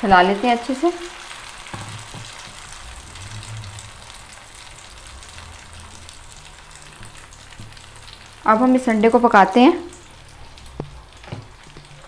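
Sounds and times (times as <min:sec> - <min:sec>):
omelette sizzling and crackling: 0:00.0 - 0:12.0.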